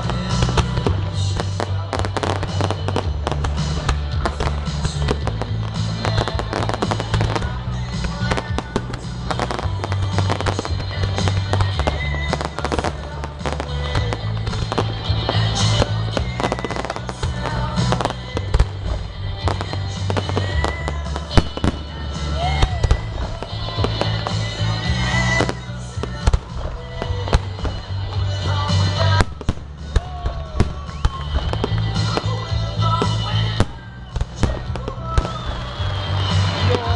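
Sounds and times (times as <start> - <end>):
firework crackling: 0.0 - 36.9.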